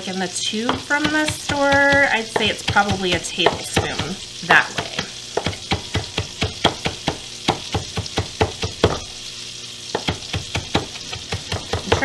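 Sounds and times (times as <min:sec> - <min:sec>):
knife chopping on wooden board: 0:00.7 - 0:09.1, 0:09.9 - 0:12.0.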